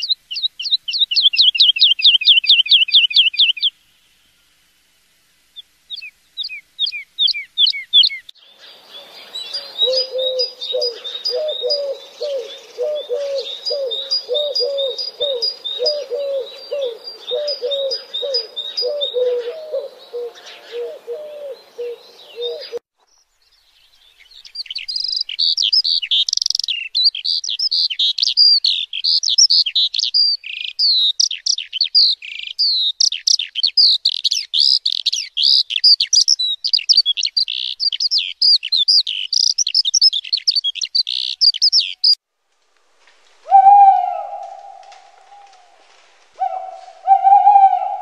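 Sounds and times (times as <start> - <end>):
songbird singing: 0.0 - 4.7, 5.4 - 42.2, 43.5 - 48.0.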